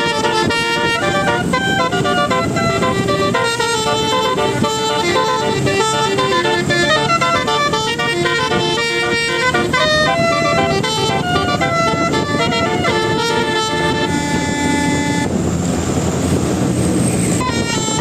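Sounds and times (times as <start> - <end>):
horn-like tones melody: 0.0 - 15.3, 17.4 - 18.0.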